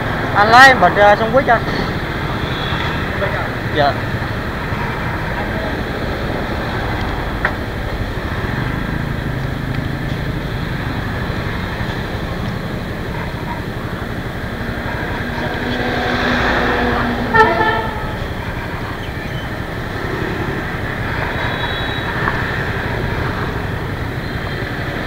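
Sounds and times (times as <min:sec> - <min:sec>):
motorbike engines running: 0:00.0 - 0:25.0
street traffic noise: 0:00.0 - 0:25.0.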